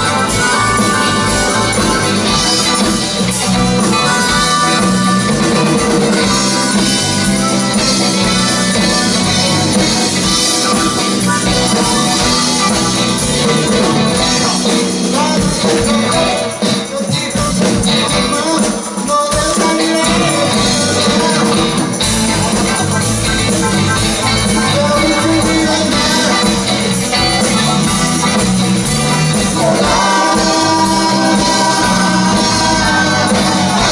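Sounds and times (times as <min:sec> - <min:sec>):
band playing rock music: 0:00.0 - 0:33.9
shaken percussion: 0:00.0 - 0:33.9.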